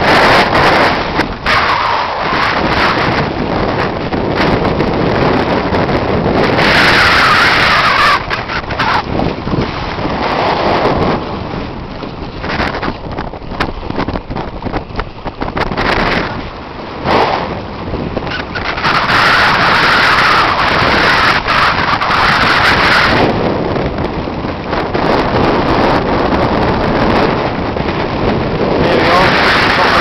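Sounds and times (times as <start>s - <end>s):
waves and water: 0.0s - 30.0s
wind buffeting microphone: 0.0s - 30.0s.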